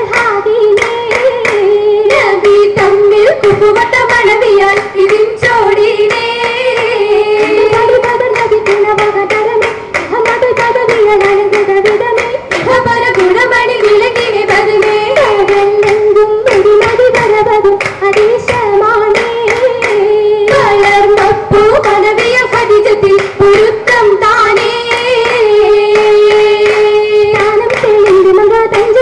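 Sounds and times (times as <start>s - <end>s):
girls singing together: 0.0s - 29.0s
sharp handclaps: 0.0s - 29.0s.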